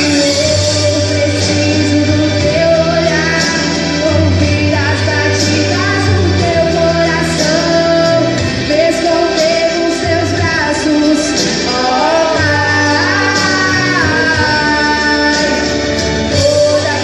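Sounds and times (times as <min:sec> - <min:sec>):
instrumental accompaniment: 0:00.0 - 0:17.0
steady bass line: 0:00.0 - 0:17.0
women singing gospel song: 0:00.0 - 0:17.0.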